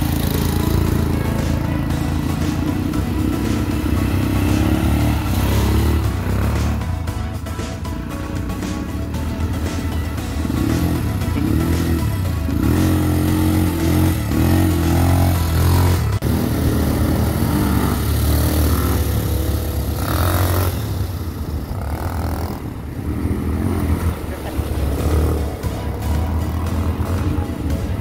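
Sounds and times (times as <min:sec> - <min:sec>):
background music: 0:00.0 - 0:28.0
small vehicle engine running: 0:00.0 - 0:28.0.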